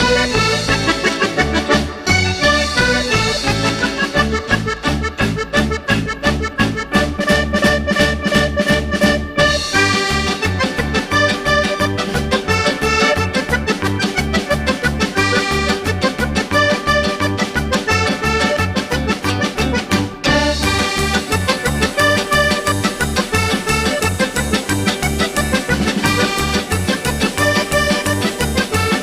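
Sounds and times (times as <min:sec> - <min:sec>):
upbeat music with bass beat: 0:00.0 - 0:29.0.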